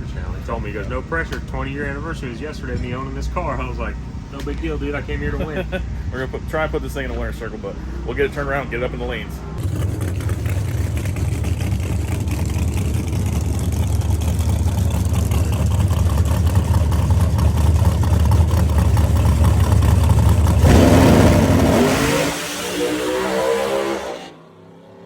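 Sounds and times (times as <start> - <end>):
car engine rumbling: 0.0 - 23.4.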